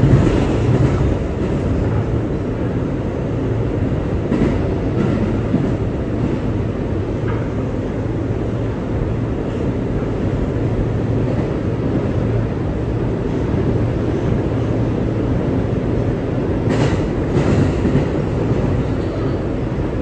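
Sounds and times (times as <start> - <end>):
subway train wheels rumbling: 0.0 - 20.0.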